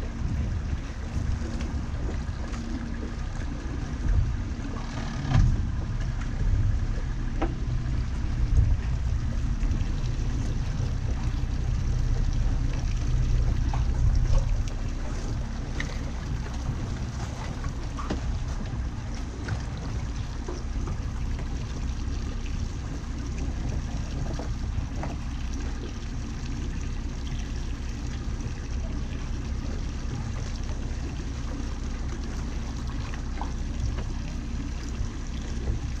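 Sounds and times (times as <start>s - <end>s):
outboard motor idling: 0.0s - 36.0s
water lapping around hull: 0.0s - 36.0s.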